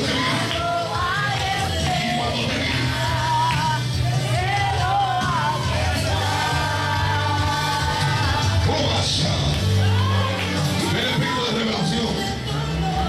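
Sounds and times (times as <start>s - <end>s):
steady bass line: 0.0s - 13.0s.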